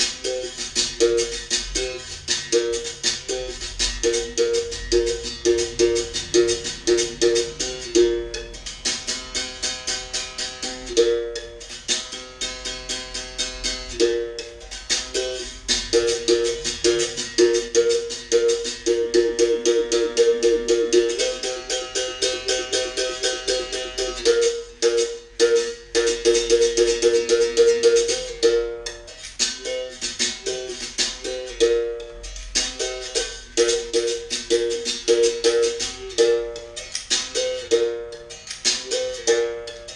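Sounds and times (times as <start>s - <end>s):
berimbau playing: 0.0s - 39.9s.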